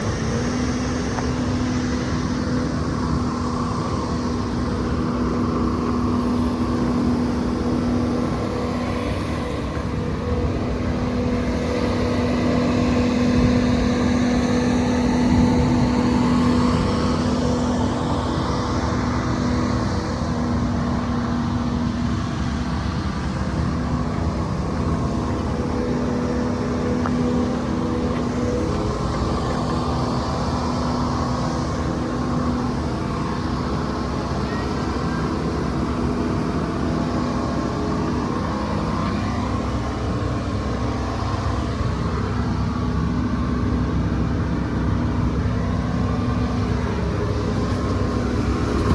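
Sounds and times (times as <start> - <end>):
skid steer engine running: 0.0 - 48.9.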